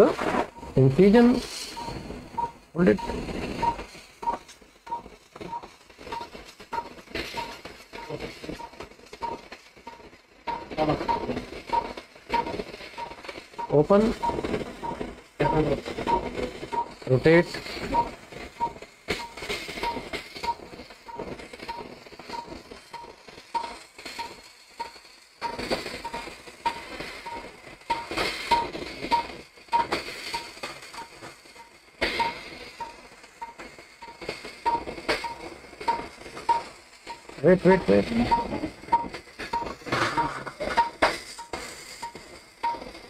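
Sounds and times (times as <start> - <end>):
patient monitor beeping: 0.0 - 43.0.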